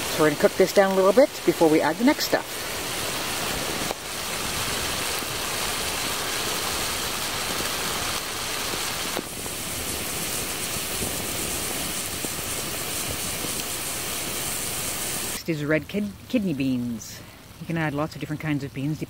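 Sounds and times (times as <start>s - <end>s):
meat and peppers sizzling in skillet: 0.0s - 17.1s.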